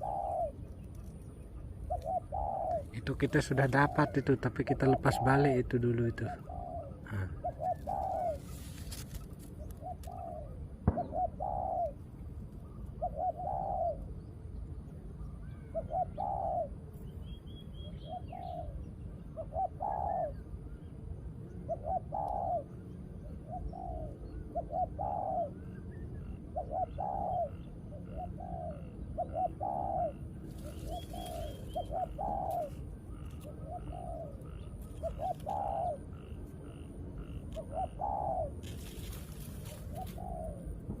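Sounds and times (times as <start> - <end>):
dove cooing: 0.0 - 14.2, 15.4 - 16.9, 17.9 - 20.9, 21.6 - 41.0.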